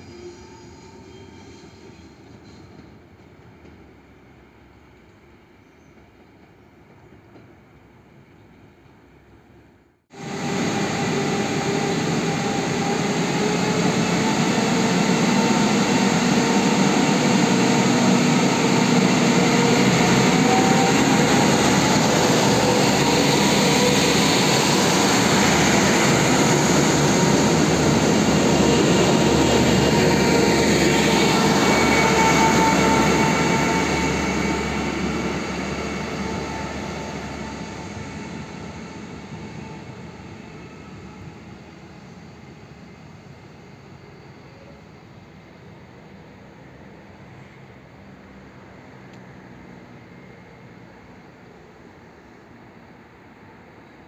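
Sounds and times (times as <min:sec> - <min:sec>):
train running noise: 0:10.1 - 0:54.0.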